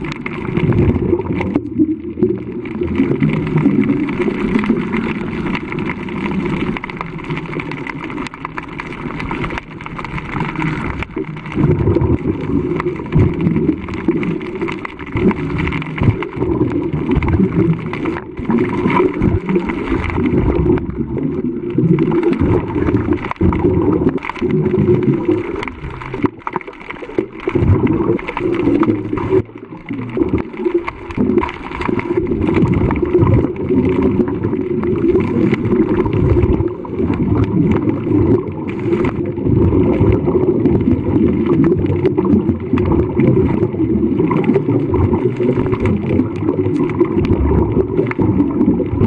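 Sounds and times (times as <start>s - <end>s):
water rushing and gurgling: 0.0s - 49.0s.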